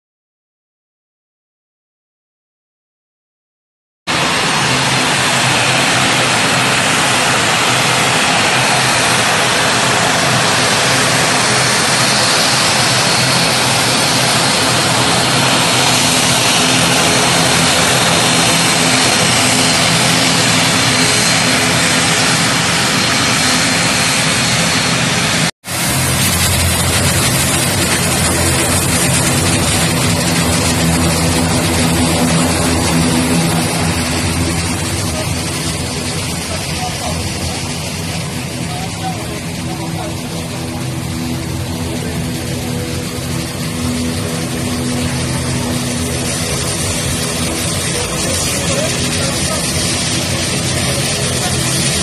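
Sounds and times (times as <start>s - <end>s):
turboprop engines roaring: 4.1s - 52.0s.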